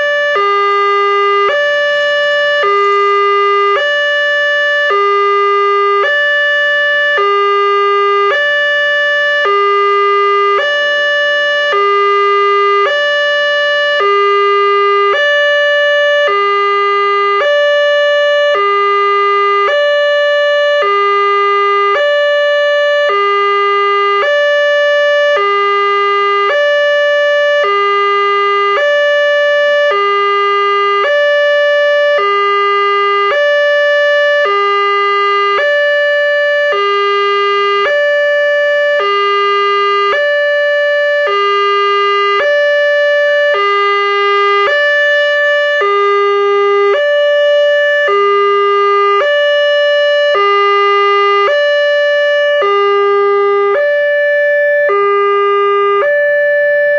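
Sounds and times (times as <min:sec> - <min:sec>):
two-tone crossing alarm: 0:00.0 - 0:56.9.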